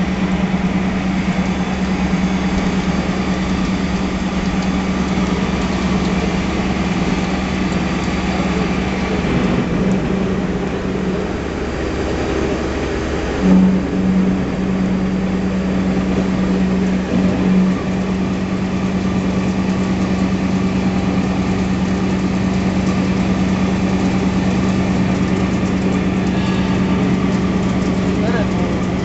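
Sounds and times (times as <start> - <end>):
machining center hum: 0.0 - 29.0.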